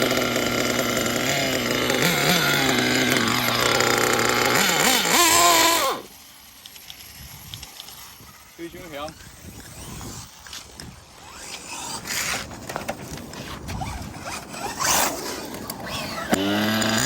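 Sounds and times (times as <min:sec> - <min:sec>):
small nitro engine revving: 0:00.0 - 0:06.2, 0:08.7 - 0:17.0.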